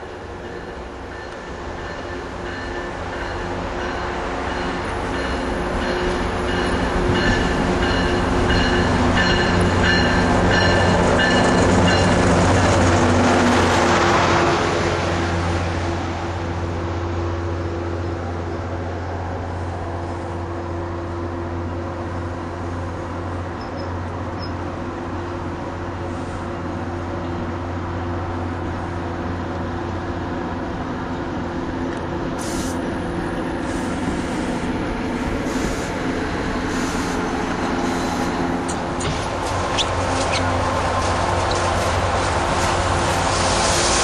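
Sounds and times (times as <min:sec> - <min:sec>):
train cars rolling past: 0:00.0 - 0:44.0.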